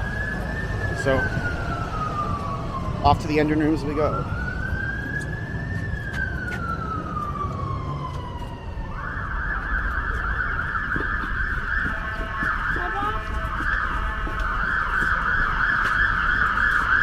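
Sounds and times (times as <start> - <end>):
emergency siren wailing: 0.0 - 17.0
low traffic rumble: 0.0 - 17.0.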